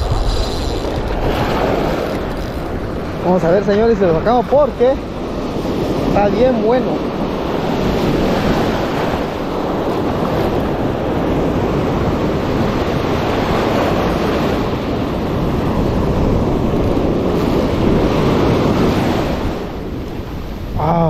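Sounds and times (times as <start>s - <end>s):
ocean waves breaking: 0.0s - 21.0s
wind buffeting microphone: 0.0s - 21.0s.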